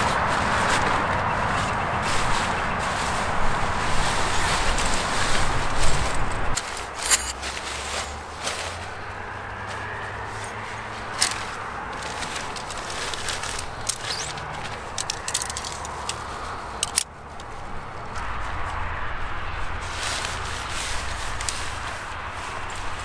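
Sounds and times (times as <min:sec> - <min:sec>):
tent fabric rustling: 0:00.0 - 0:17.7, 0:19.6 - 0:23.0
tent poles clicking and rattling: 0:00.0 - 0:18.6, 0:19.8 - 0:23.0.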